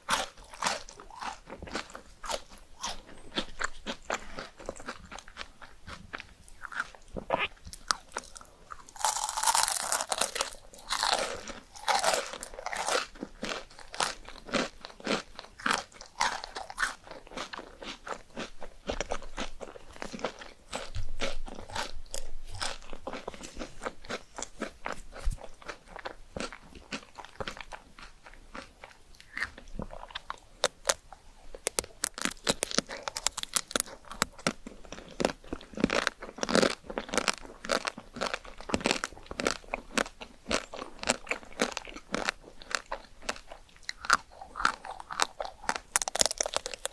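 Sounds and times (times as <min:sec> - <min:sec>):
crisp crunches of chewing: 0:00.0 - 0:46.9.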